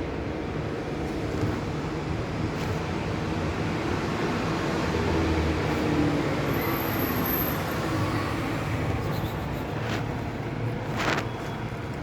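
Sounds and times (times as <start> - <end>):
road traffic engines humming: 0.0 - 12.0.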